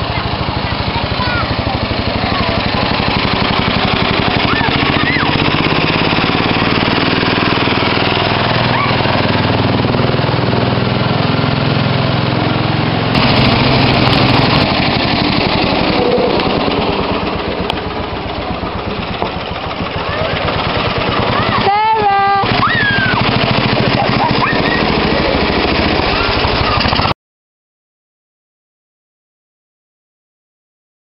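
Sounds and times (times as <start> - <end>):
ride-on mower engine running: 0.0 - 27.2.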